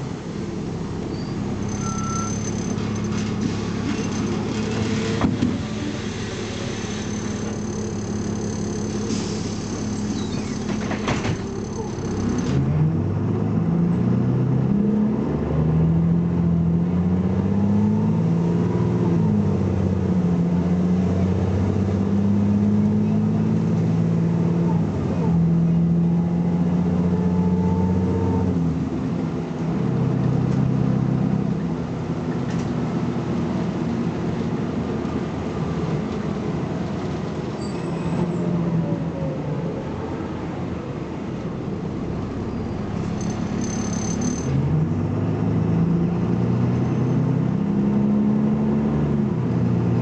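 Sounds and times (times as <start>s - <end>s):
bus engine accelerating: 0.0s - 50.0s.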